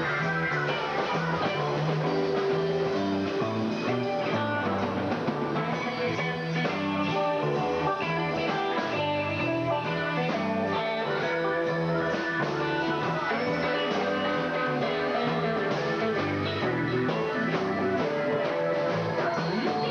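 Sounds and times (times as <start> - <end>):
bass line: 0.0 - 19.9
electric guitar: 0.0 - 19.9
live rock band playing: 0.0 - 19.9.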